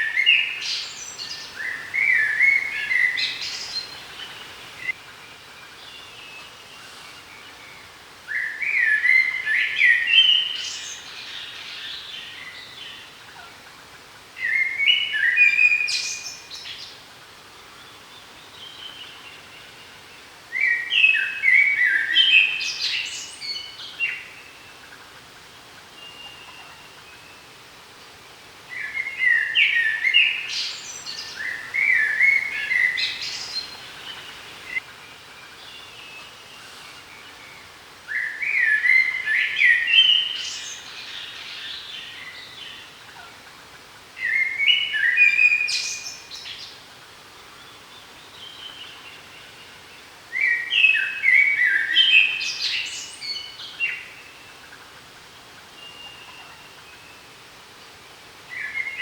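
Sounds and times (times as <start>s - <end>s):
songbird chirping: 0.0s - 13.5s, 17.6s - 59.0s
faint outdoor background noise: 0.0s - 59.0s.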